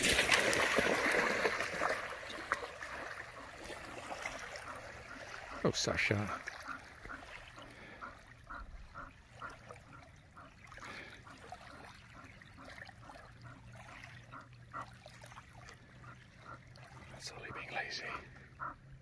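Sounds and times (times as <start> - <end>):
water lapping in shallows: 0.0 - 19.0.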